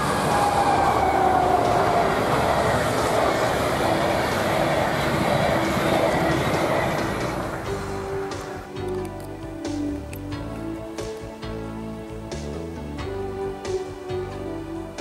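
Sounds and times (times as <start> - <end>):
locomotive whine: 0.0 - 15.0
train wheels rumbling on rails: 0.0 - 15.0.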